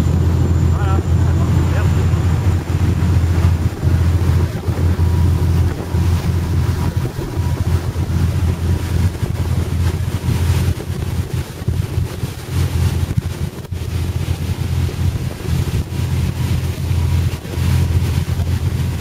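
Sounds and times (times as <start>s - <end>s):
ferry engine drone: 0.0s - 19.0s
wind buffeting microphone: 0.0s - 19.0s.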